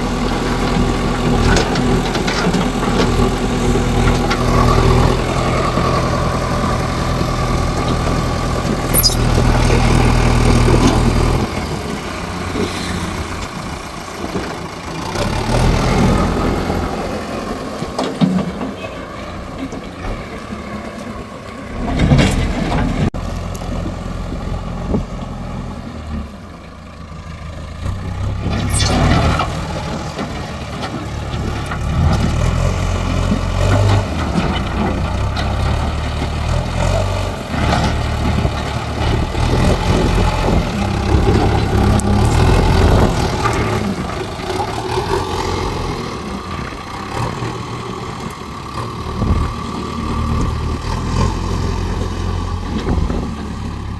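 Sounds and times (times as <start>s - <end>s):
diesel loader engine rumbling: 0.0s - 53.9s.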